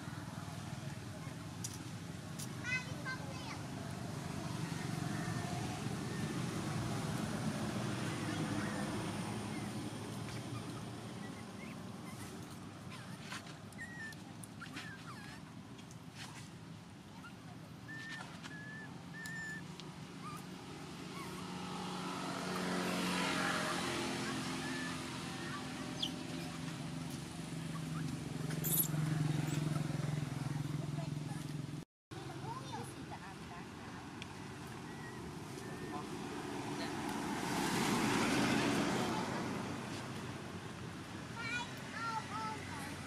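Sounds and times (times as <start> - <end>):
motor vehicle passing: 0.0 - 43.0.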